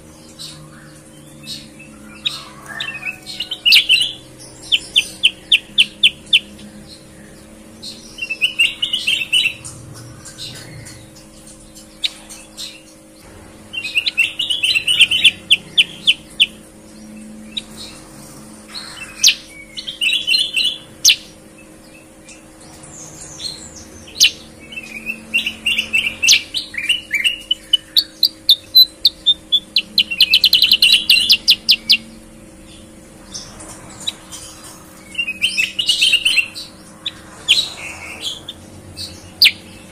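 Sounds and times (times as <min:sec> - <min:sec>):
birds chirping trills: 0:00.0 - 0:39.9
faint steady hum: 0:00.0 - 0:39.9.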